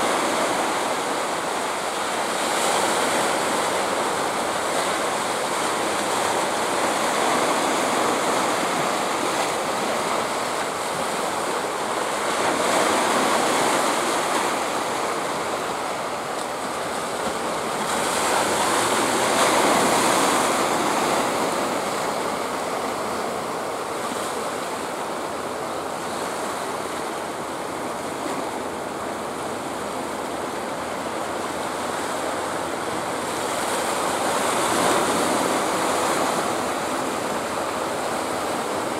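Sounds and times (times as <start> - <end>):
sea surf washing in: 0.0 - 38.9.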